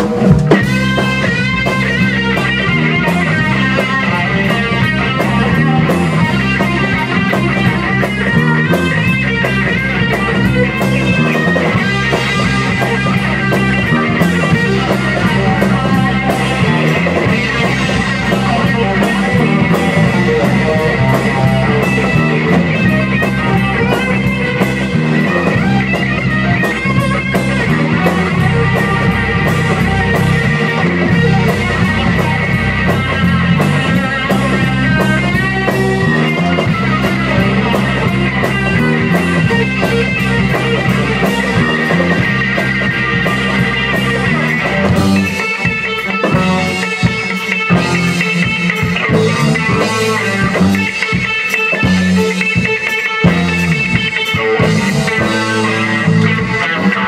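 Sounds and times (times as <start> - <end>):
drum kit steady beat: 0.0 - 57.0
electric bass: 0.0 - 57.0
electric guitar: 0.0 - 57.0.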